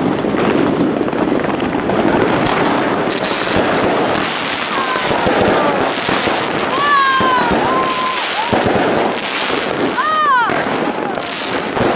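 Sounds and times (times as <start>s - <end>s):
fireworks barrage: 0.0s - 11.9s.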